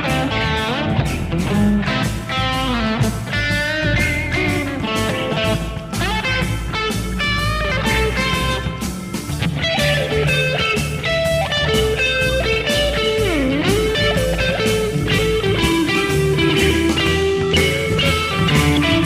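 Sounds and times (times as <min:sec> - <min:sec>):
electric guitar lead lines: 0:00.0 - 0:19.0.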